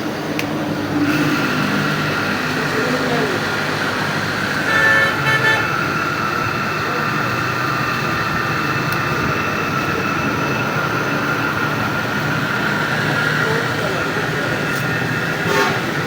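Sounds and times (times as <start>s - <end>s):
electric water pump motor running: 0.0s - 16.0s.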